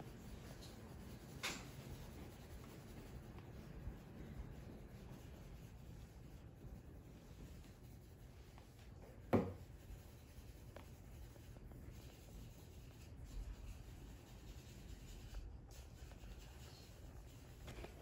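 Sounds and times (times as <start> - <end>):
pencils scratching on paper: 0.0 - 18.0.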